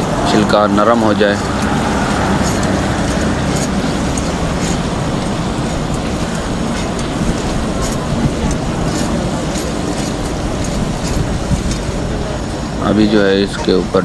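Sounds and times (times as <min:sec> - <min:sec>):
gas burner flame rushing: 0:00.0 - 0:14.0.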